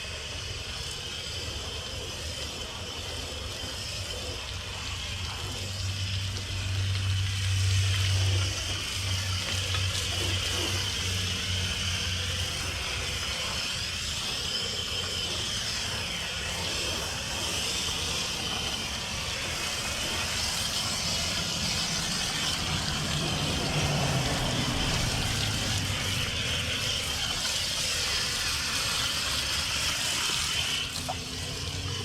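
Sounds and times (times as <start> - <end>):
garden hose spraying water: 0.0 - 32.0
low engine-like hum: 0.0 - 32.0.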